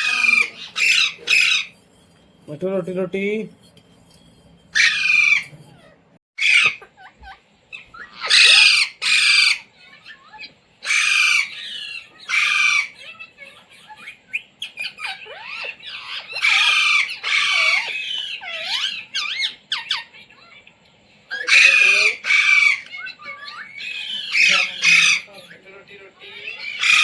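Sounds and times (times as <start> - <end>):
parakeet squawking: 0.0 - 20.5, 21.3 - 27.0.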